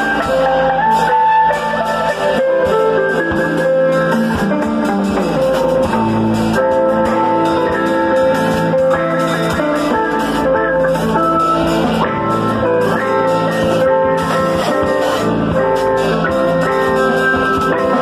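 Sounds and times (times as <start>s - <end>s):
drum kit playing: 0.0s - 18.0s
electric guitar: 0.0s - 18.0s.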